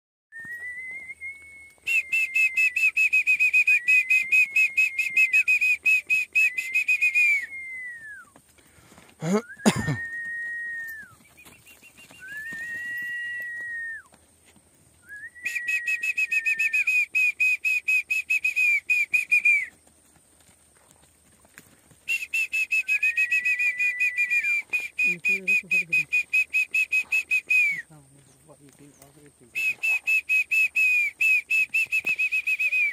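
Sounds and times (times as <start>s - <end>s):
person whistling: 0.3s - 8.3s, 9.2s - 14.1s, 15.0s - 19.7s, 22.1s - 27.9s, 29.6s - 32.9s.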